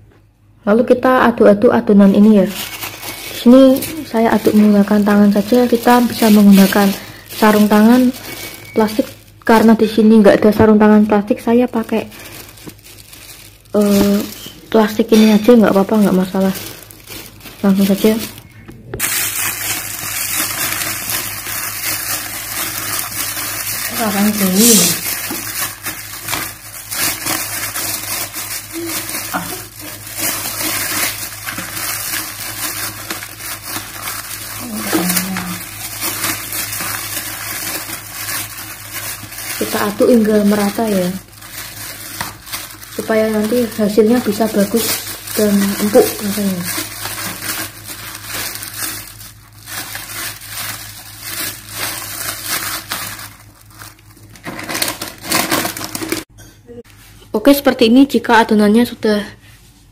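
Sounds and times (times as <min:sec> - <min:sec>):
plastic bag crinkling: 0:01.9 - 0:56.3
dough squishing: 0:02.1 - 0:56.3.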